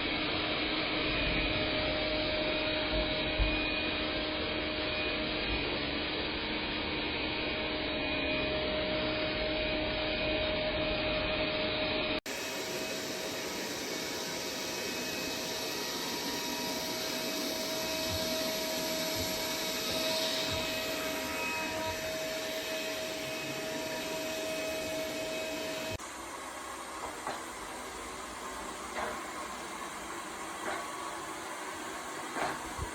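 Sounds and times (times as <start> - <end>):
robot vacuum running: 0.0 - 32.9.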